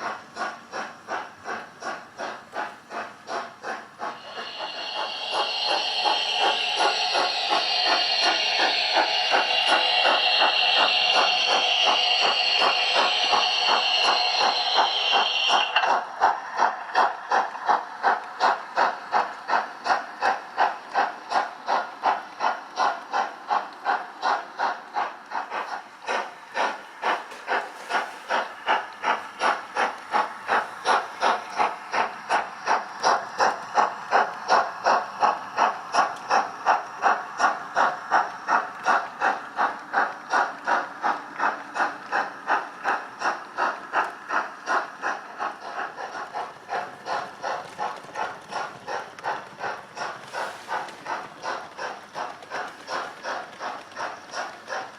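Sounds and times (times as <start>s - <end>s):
model steam locomotive chuffing: 0.0s - 54.9s.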